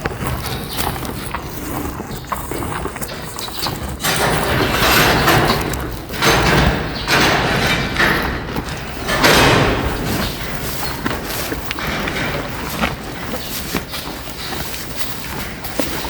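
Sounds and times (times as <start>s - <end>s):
cow chewing dry straw: 0.0s - 16.0s.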